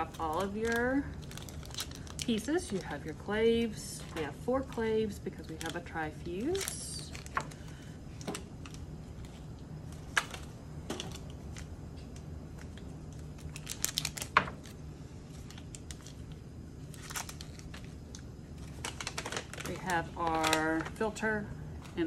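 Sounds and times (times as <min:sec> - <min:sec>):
packaging crinkling and peeling: 0:00.0 - 0:21.2.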